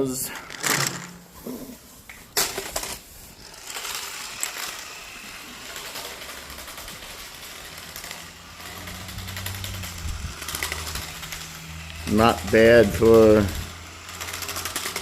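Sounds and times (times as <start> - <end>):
toy truck electric motor buzzing: 2.4 - 15.0.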